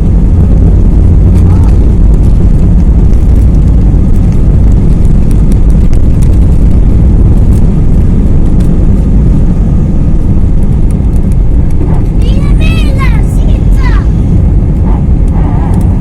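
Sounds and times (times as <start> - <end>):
airplane engines rumbling: 0.0 - 16.0.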